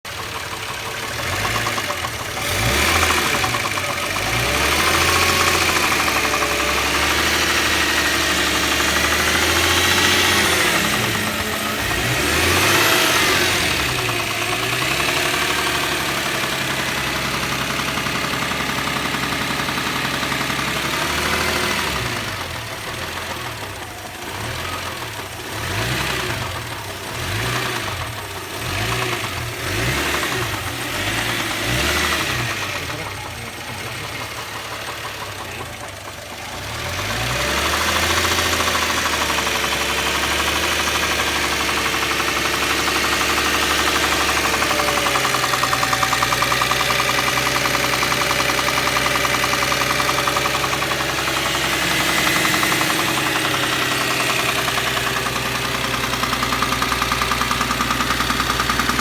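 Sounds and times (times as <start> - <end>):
engine revving: 0.1 - 59.0.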